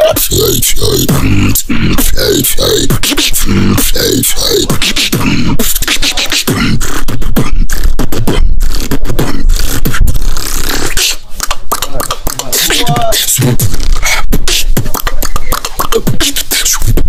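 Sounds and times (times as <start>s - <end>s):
person beatboxing: 0.0s - 17.0s.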